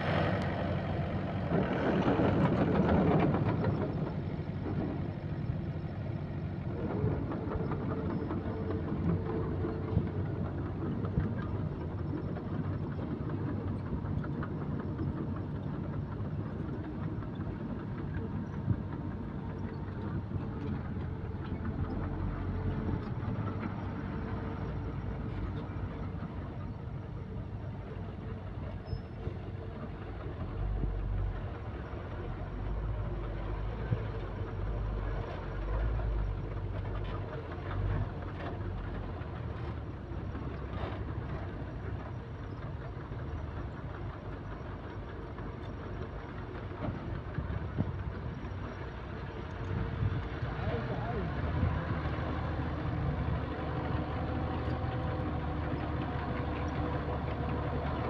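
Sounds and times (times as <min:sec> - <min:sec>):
diesel machinery engine rumble: 0:00.0 - 0:58.0.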